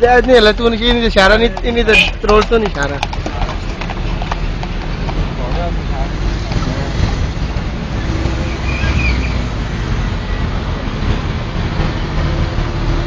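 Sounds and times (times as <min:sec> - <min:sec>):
road and vehicle rumble: 0:00.0 - 0:13.0.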